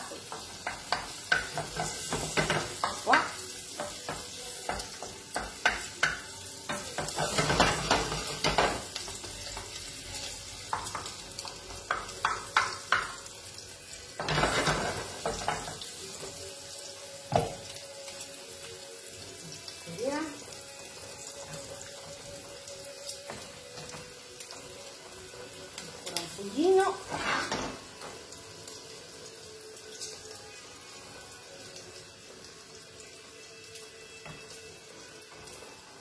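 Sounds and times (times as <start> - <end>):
meat sizzling in a frying pan: 0.0 - 36.0.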